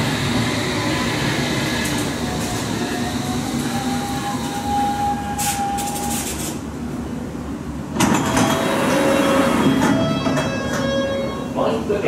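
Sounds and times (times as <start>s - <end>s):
train motor whine: 0.0s - 6.6s, 8.0s - 11.5s.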